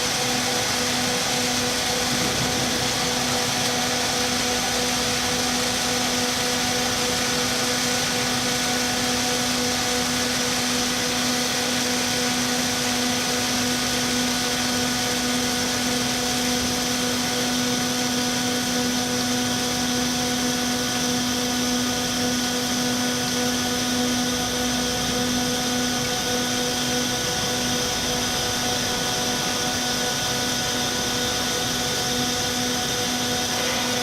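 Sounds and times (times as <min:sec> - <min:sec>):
ice machine humming: 0:00.0 - 0:34.0.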